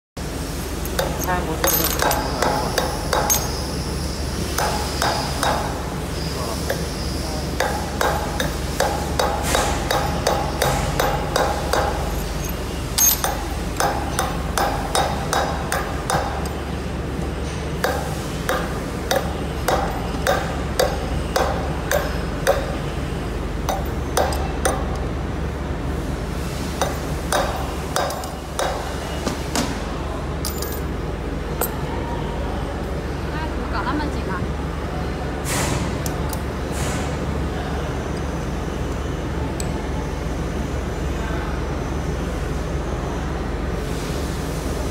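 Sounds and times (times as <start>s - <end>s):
steady low hum: 0.2s - 44.9s.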